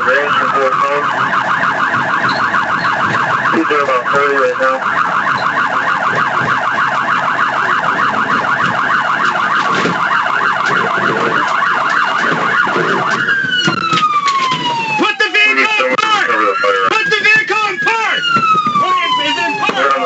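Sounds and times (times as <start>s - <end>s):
police siren yelping: 0.0s - 20.0s.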